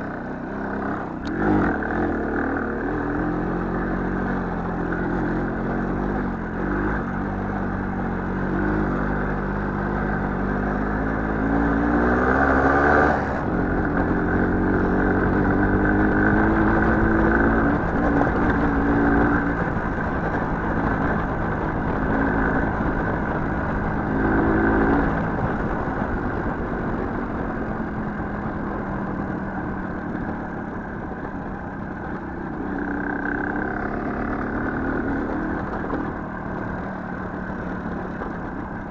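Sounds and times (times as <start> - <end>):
small motorcycle engine revving: 0.0 - 27.6, 32.5 - 38.3.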